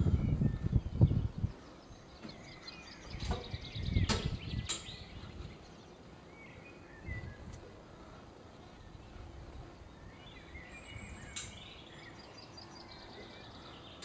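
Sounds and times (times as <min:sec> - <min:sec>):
wind buffeting microphone: 0:00.0 - 0:12.9
birds chirping: 0:00.0 - 0:14.0.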